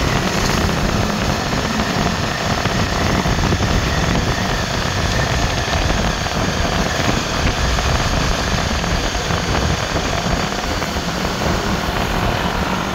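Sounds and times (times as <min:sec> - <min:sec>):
vehicle engine and tyre noise: 0:00.0 - 0:12.9
wind buffeting microphone: 0:00.0 - 0:12.9.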